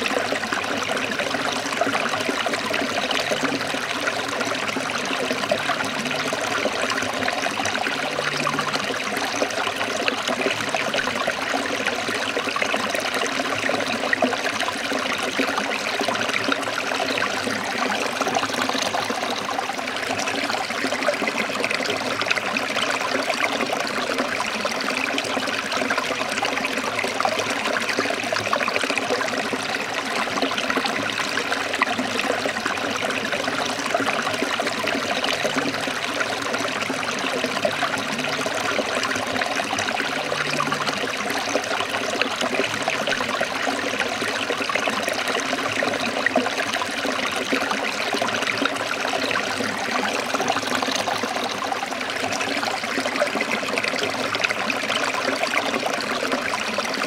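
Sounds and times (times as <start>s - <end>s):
stream trickling over rocks: 0.0s - 57.0s.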